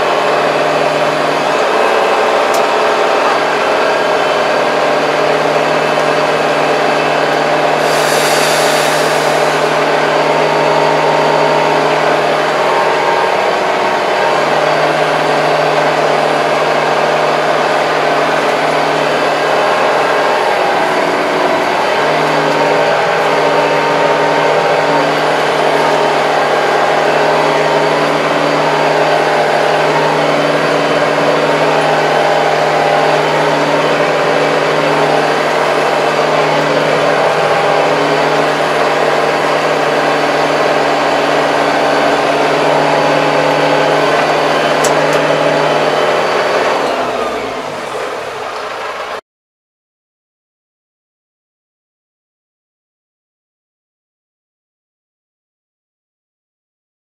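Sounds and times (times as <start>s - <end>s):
tractor diesel engine running: 0.0s - 49.2s.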